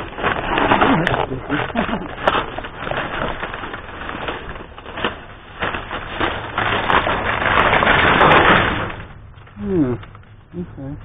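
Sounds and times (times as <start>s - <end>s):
rustling bags and packaging: 0.0s - 11.0s.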